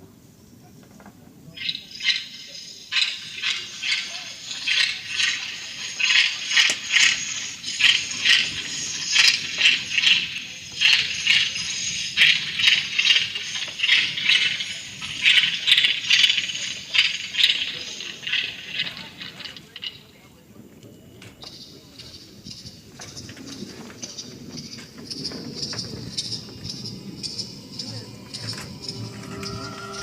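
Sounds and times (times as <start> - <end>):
rattles shaken: 2.9 - 20.0, 22.5 - 30.0.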